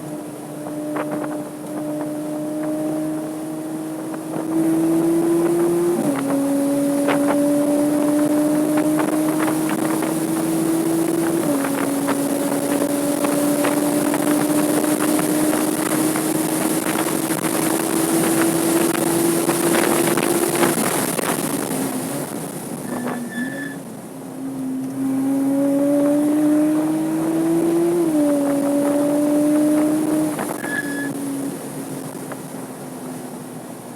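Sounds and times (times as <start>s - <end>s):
wind noise: 0.0s - 23.8s, 25.0s - 32.5s
car engine accelerating hard: 0.0s - 33.9s.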